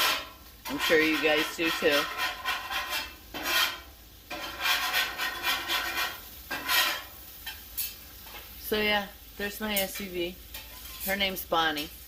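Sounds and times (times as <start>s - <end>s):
metal spatula scraping griddle: 0.0s - 8.5s, 9.7s - 11.4s.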